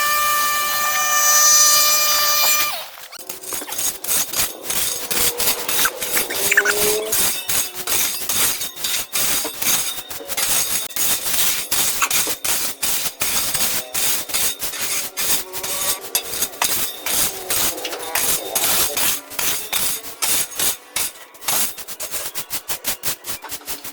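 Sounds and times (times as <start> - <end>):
hand tools scraping and knocking: 0.0 - 23.9.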